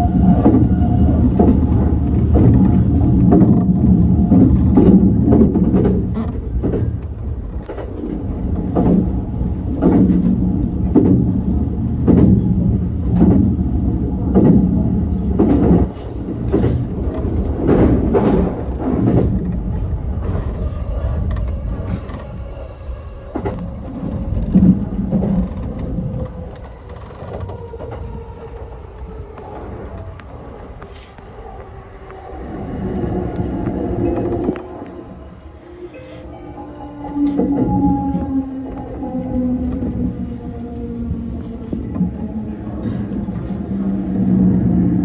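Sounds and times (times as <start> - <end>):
train running noise: 0.0 - 45.0.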